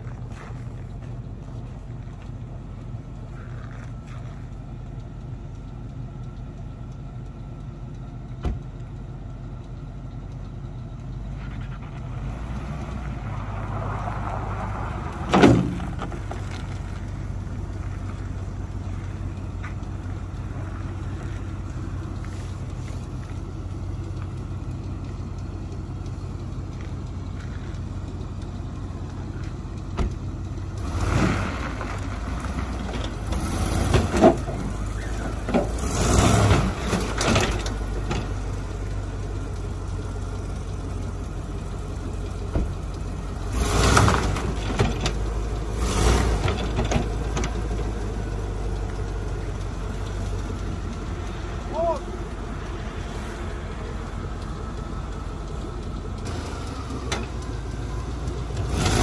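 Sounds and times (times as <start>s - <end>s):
car engine running slowly: 0.0s - 59.0s.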